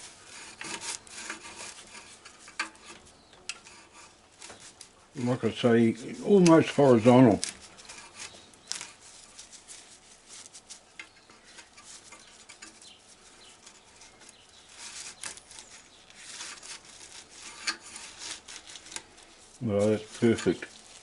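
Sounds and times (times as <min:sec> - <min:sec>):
leaf rustling and crackling: 0:00.0 - 0:21.0.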